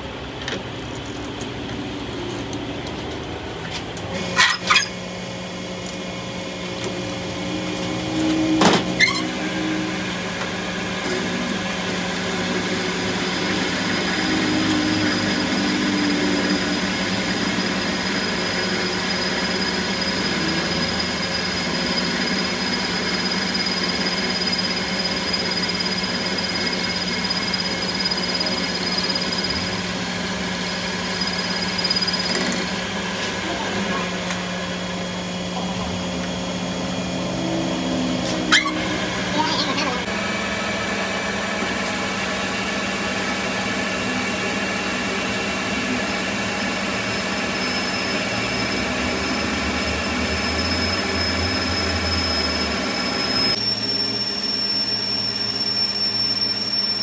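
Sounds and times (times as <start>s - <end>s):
machine humming: 0.0s - 57.0s
thin high whine: 4.0s - 57.0s.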